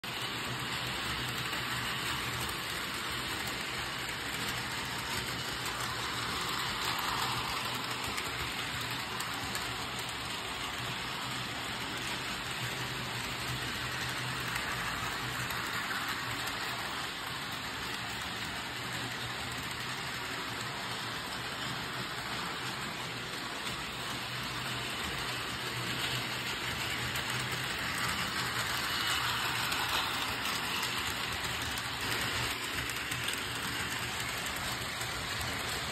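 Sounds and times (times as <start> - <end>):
wheels rumbling on rails: 0.0 - 35.9
small electric motors whirring: 0.1 - 35.9.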